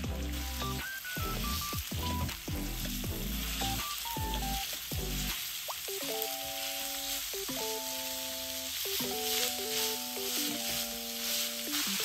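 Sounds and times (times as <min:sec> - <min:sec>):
light background music: 0:00.0 - 0:12.0
meat sizzling in a frying pan: 0:00.0 - 0:12.0
wooden spatula stirring: 0:01.5 - 0:12.0.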